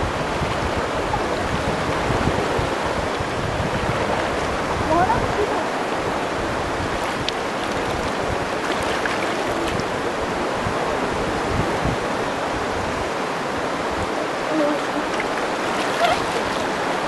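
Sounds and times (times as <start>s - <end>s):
river rushing over stones: 0.0s - 17.0s.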